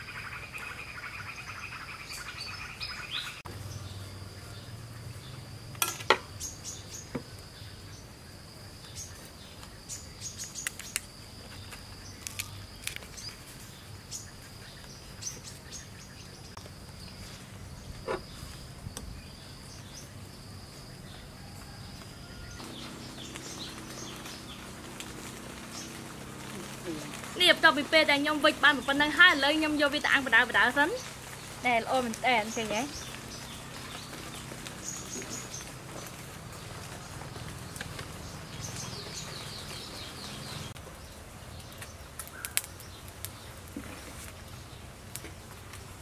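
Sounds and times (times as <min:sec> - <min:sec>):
leaves rustling and clicking: 0:00.0 - 0:46.0.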